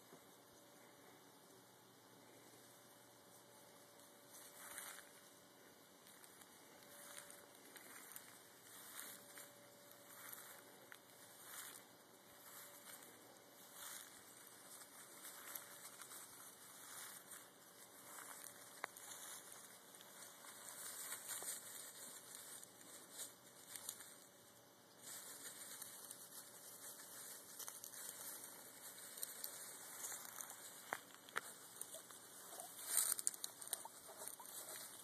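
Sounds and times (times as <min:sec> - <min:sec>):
rustling in dry leaves: 0:03.3 - 0:35.0.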